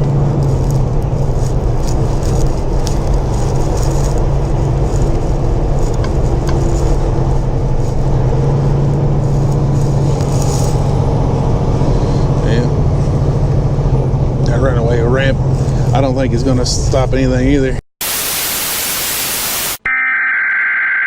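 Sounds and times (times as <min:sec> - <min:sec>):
diesel truck engine running: 0:00.0 - 0:17.5
road noise: 0:00.0 - 0:19.8.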